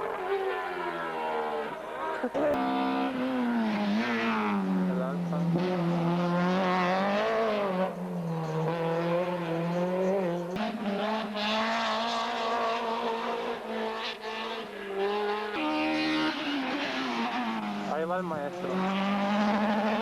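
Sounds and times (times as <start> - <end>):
racing car engine revving: 0.0 - 20.0.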